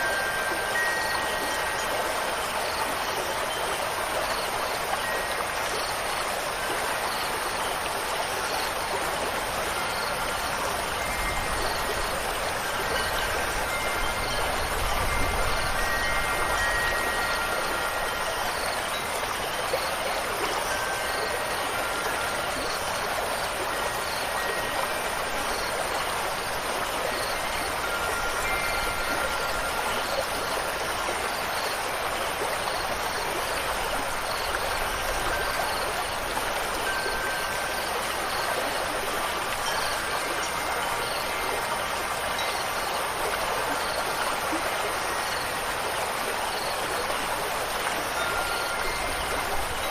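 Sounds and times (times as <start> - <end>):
wind chime tones: 0.0 - 6.0, 9.7 - 46.9, 47.9 - 49.9
stream water rushing: 0.0 - 49.9.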